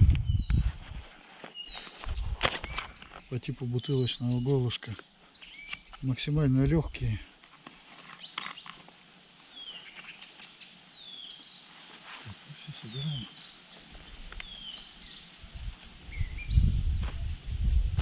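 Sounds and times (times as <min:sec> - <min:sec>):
songbird calling: 0:00.0 - 0:06.7, 0:08.0 - 0:08.8, 0:09.4 - 0:17.7.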